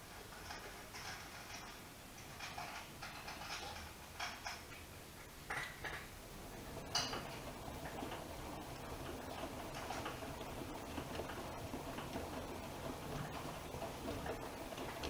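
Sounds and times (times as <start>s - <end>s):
washing machine drum clicks and rattles: 0.0s - 4.8s, 5.5s - 15.0s.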